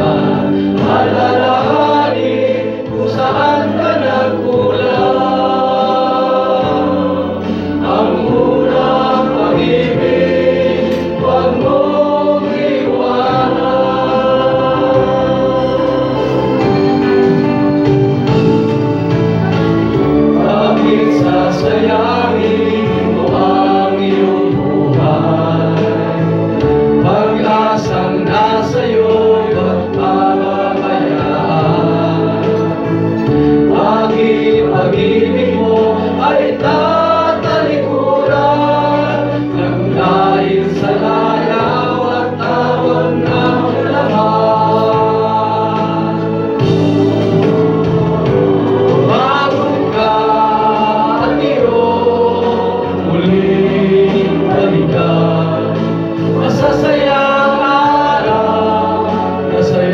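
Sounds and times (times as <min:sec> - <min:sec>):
choir singing gospel song: 0:00.0 - 0:59.9
sustained accompaniment: 0:00.0 - 0:59.9.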